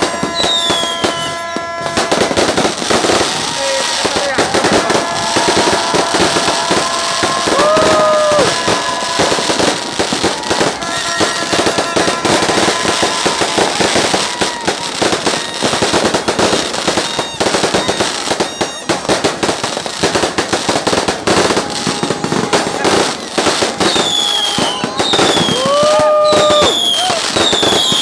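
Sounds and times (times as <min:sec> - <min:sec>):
firecrackers crackling: 0:00.0 - 0:28.0.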